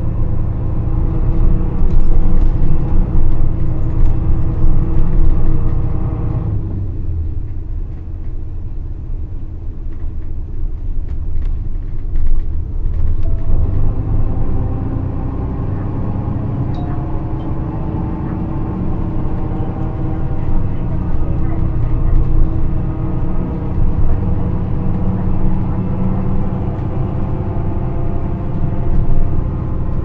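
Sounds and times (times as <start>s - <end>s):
bus diesel engine rumbling: 0.0s - 30.0s.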